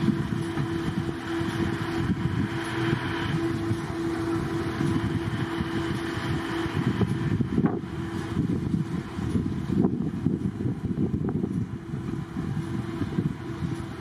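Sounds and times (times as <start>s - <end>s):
constant hum: 0.0s - 14.0s
wind buffeting microphone: 0.0s - 14.0s.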